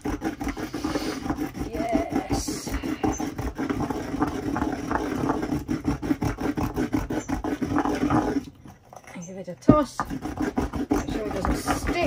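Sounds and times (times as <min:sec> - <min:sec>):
pestle pounding in a mortar: 0:00.0 - 0:08.7, 0:09.6 - 0:12.0.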